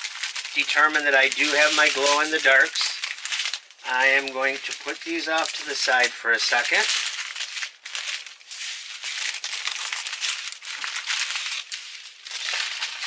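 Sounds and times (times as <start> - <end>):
plastic bags crinkling: 0.0 - 13.0
tiny beads rattling in bags: 0.0 - 13.0.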